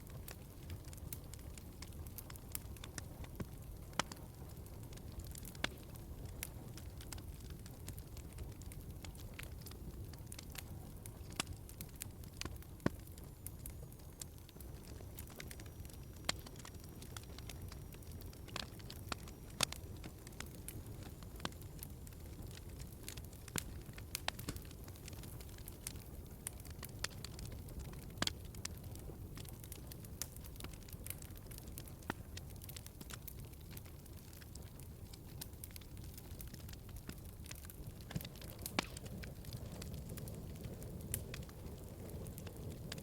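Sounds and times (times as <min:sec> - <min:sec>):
fire crackling and popping: 0:00.0 - 0:43.0
fire rumbling: 0:00.0 - 0:43.0.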